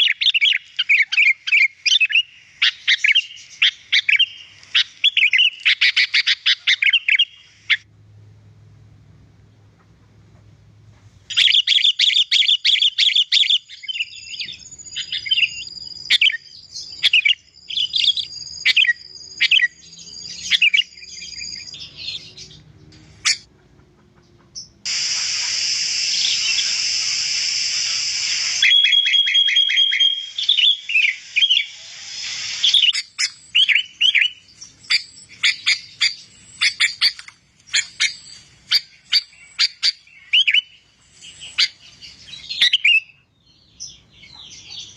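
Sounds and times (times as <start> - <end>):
bird chirps and whistles: 0.0 - 7.8, 11.3 - 22.4, 24.9 - 43.2.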